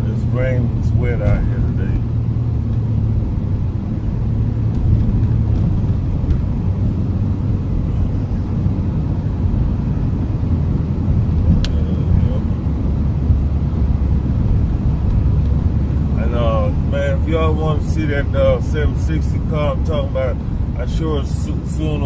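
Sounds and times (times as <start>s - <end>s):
vehicle rumble on wet road: 0.0s - 22.0s.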